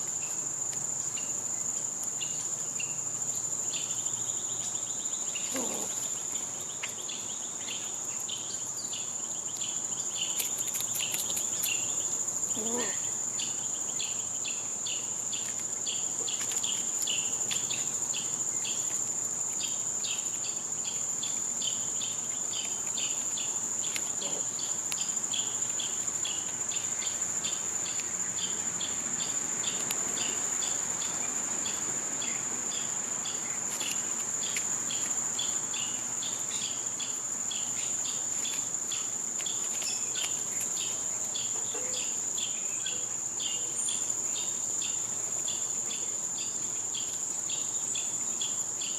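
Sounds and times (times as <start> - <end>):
insect chorus high-pitched trill: 0.0 - 48.9
insect rapid rhythmic chirps: 0.0 - 48.9.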